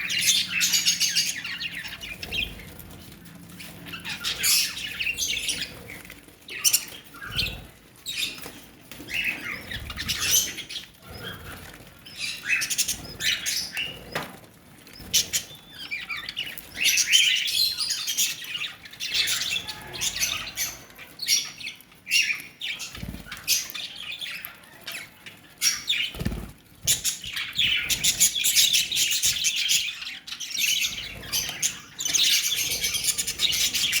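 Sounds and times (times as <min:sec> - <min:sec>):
lovebirds chattering: 0:00.0 - 0:14.3, 0:14.9 - 0:34.0.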